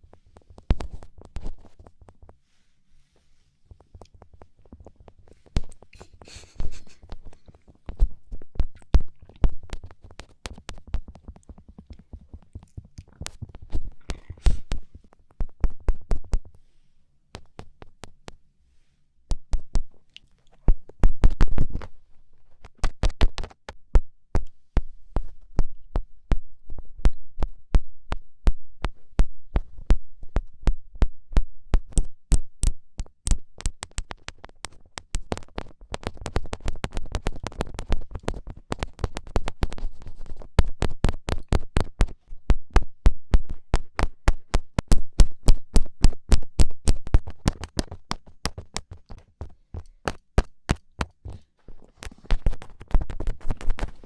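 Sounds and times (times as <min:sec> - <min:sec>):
fingertip taps and pokes: 0:03.7 - 0:16.6, 0:17.3 - 0:18.4, 0:19.3 - 0:19.9, 0:20.7 - 0:22.0, 0:22.6 - 0:54.0.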